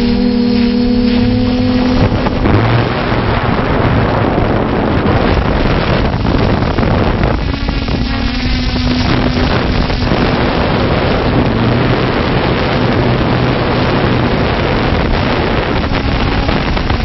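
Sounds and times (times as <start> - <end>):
drone motor hum: 0.0 - 17.0
drone propellers rushing: 0.0 - 17.0
wind buffeting microphone: 0.0 - 17.0.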